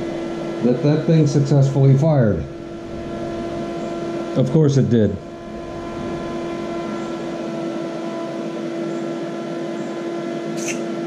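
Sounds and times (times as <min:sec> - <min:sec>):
fan hum: 0:00.0 - 0:11.0.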